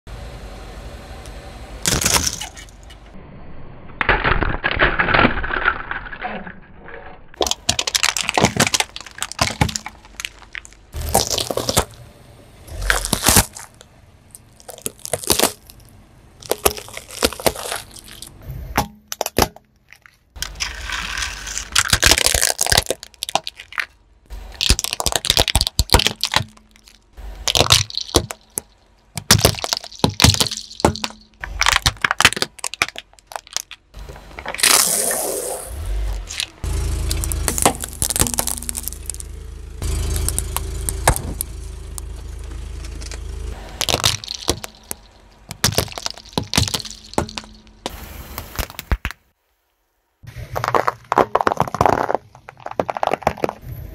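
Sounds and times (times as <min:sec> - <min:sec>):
car tyre crushing plastic objects: 0:01.8 - 0:03.0, 0:04.0 - 0:06.5, 0:07.3 - 0:12.0, 0:12.6 - 0:49.4, 0:50.2 - 0:53.9.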